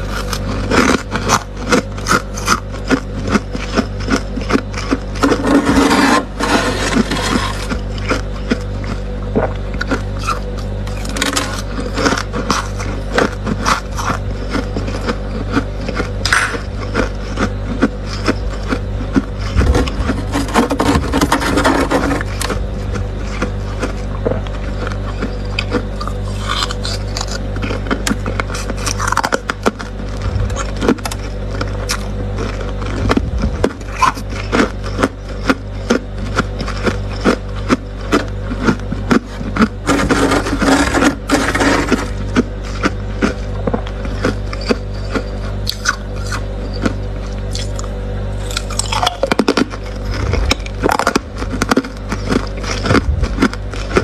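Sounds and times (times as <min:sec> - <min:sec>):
frost scraping clicks: 0:00.0 - 0:09.0, 0:18.0 - 0:54.0
steady low hum: 0:00.0 - 0:54.0.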